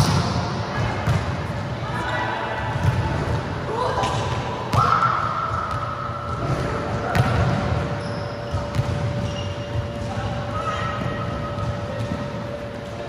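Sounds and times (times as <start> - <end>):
volleyball hits echoing in hall: 0.0 - 13.0.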